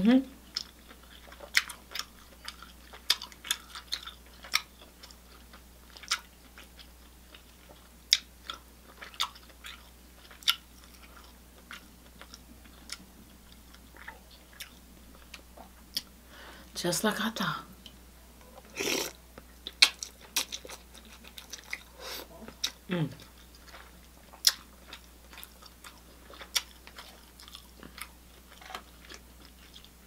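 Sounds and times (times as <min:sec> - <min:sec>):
chewing and lip-smacking: 0:00.5 - 0:16.1, 0:19.0 - 0:30.0.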